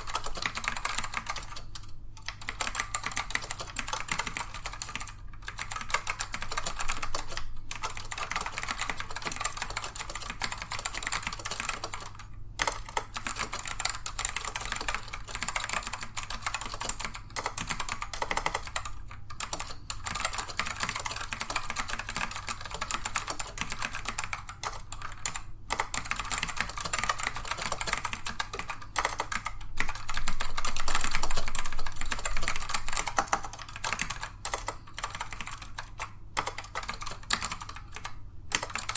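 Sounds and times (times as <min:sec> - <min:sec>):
rapid keyboard typing: 0:00.0 - 0:38.9.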